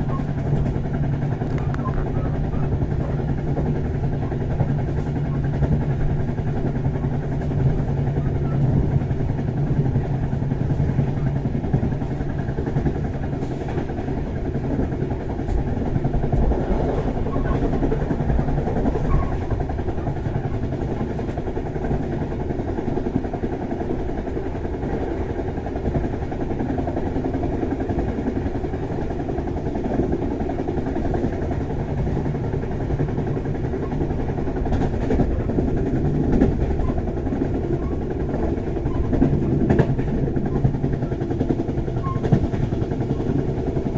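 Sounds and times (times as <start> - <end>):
train wheels rumbling on track: 0.0 - 43.9.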